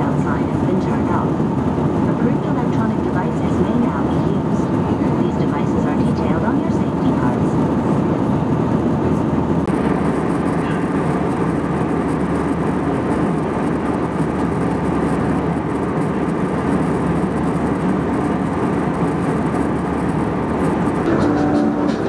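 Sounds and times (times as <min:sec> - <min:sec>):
airplane cabin engine rush: 0:00.0 - 0:22.0.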